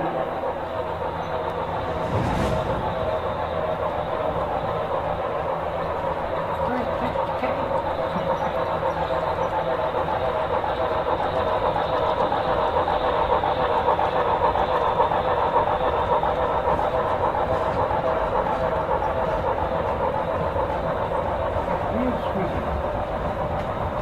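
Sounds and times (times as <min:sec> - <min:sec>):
steam train rumble and clatter: 0:00.0 - 0:24.0.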